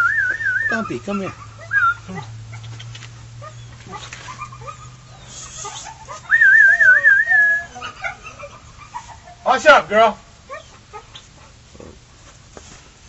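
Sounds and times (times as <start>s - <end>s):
puppies whimpering: 0.0s - 9.8s, 10.5s - 12.0s.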